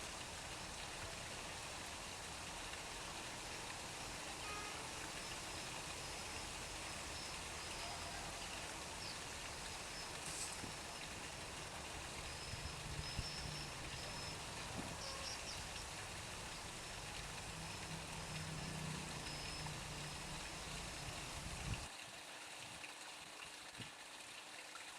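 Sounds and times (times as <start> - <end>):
water pouring and splashing: 0.0 - 24.9.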